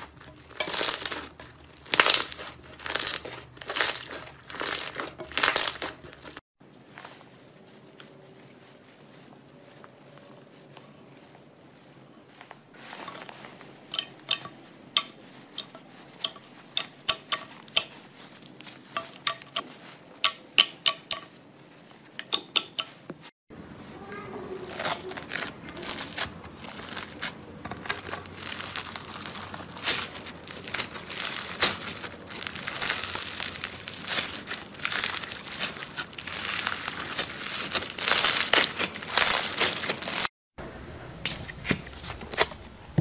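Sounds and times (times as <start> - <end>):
slime squishing: 0.0 - 23.1, 23.8 - 40.3.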